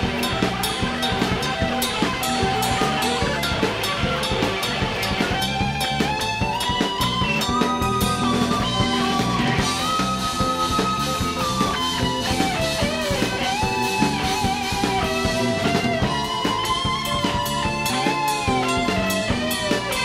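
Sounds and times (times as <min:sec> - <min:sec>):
lead guitar sliding notes: 0:00.0 - 0:20.0
live rock band playing: 0:00.0 - 0:20.0.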